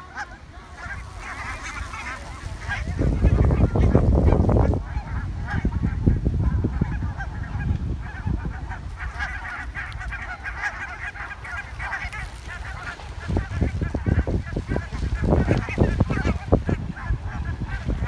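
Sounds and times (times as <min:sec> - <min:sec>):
geese honking: 0:00.0 - 0:18.0
wind buffeting microphone: 0:00.0 - 0:18.0.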